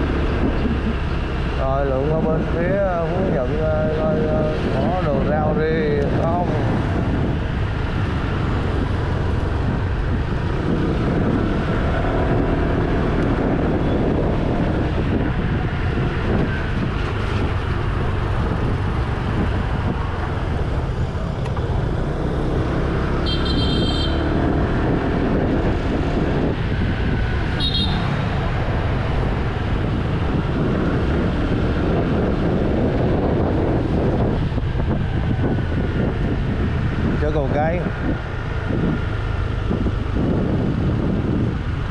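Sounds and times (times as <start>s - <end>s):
road noise: 0.0s - 41.9s.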